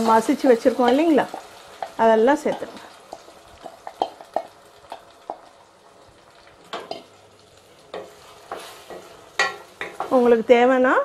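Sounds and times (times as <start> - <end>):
faint sizzle of frying: 0.0 - 11.0.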